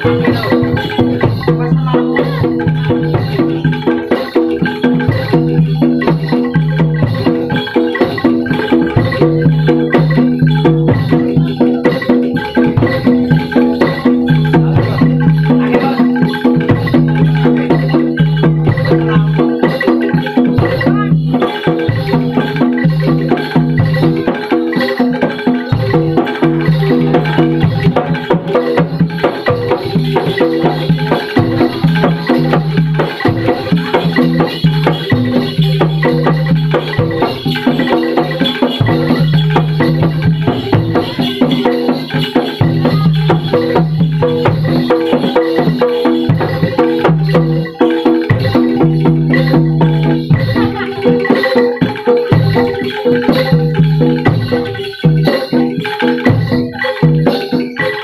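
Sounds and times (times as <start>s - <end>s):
bronze metallophones ringing: 0.0s - 58.0s
drumming and rattling percussion: 0.0s - 58.0s.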